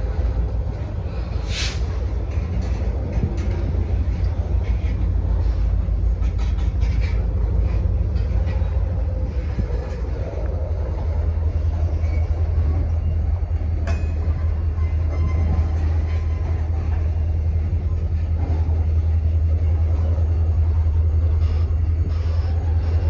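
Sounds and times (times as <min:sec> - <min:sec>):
train wheels rumbling on rail: 0:00.0 - 0:23.0
clicks of train wheels: 0:00.1 - 0:23.0.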